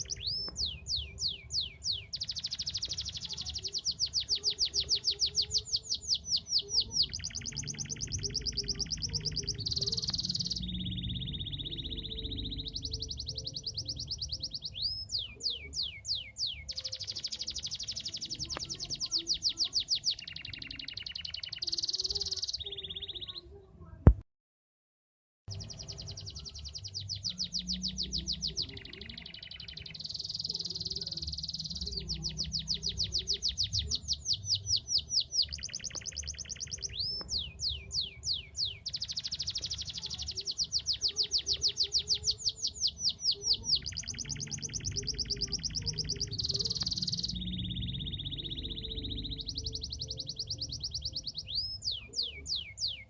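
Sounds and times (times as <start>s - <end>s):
canary singing trills: 0.0s - 23.6s, 25.5s - 53.0s.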